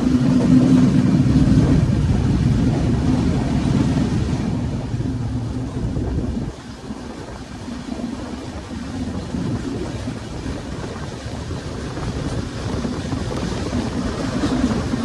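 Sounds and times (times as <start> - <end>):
moving train rumble: 0.0 - 15.0.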